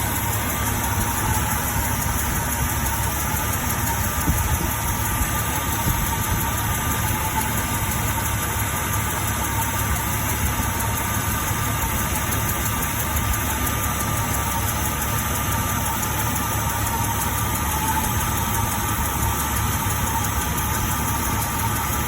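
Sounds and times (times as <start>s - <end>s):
car engine idling: 0.0s - 22.0s
engine ticking: 0.0s - 22.0s.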